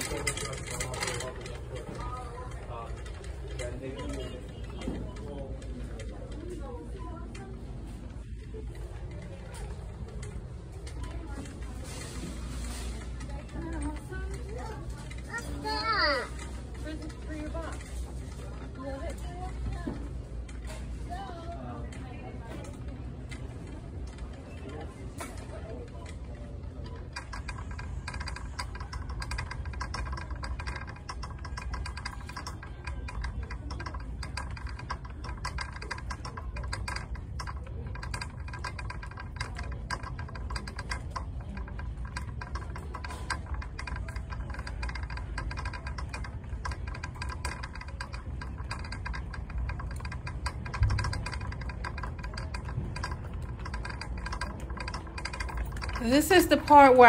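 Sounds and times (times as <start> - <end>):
shopping cart wheels rattling: 0.0 - 57.0.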